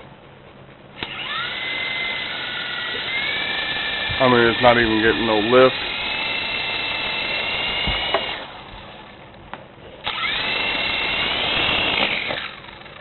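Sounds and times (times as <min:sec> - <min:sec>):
small electric motors whining: 0:01.0 - 0:09.4, 0:10.0 - 0:13.0.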